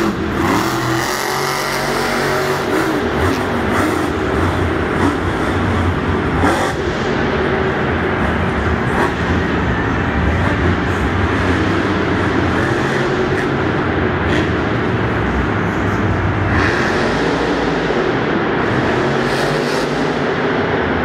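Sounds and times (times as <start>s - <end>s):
monster truck engines running: 0.0s - 21.0s.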